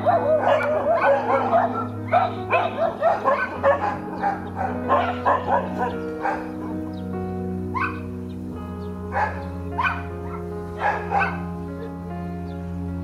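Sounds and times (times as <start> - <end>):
dogs barking and yelping: 0.0 - 7.0, 7.6 - 8.2, 9.0 - 12.1
background music: 0.0 - 13.0.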